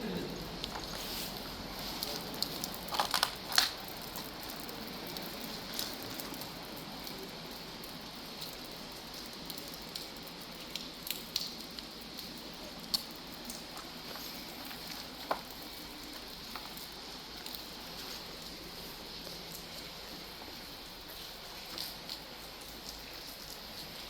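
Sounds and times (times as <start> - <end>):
raindrops ticking: 0.0 - 24.0
steady rain hiss: 0.0 - 24.0.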